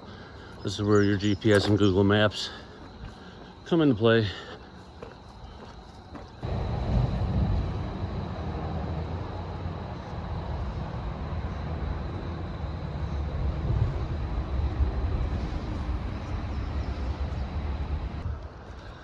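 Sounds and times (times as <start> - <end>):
highway traffic rumble: 0.0 - 19.0.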